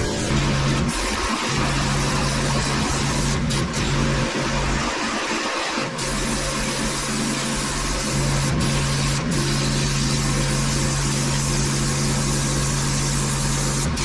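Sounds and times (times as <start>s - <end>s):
high-pressure spray hissing: 0.0s - 14.0s
pressure washer engine running: 0.0s - 14.0s.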